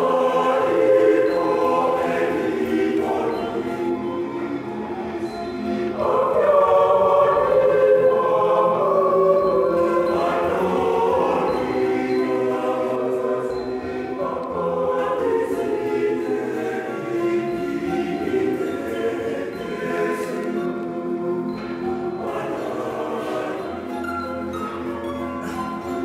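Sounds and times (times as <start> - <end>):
mixed choir singing in harmony: 0.0 - 26.0.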